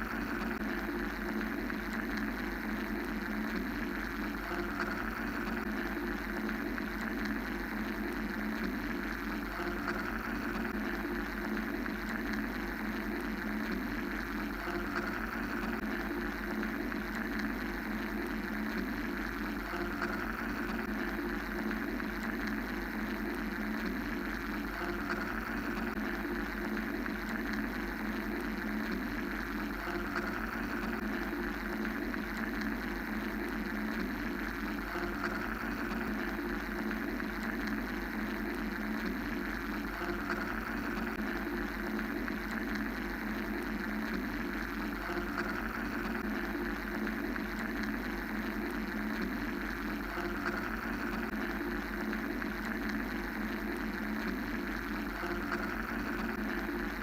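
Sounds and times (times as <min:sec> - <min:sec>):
mechanical white noise drone: 0:00.0 - 0:57.0.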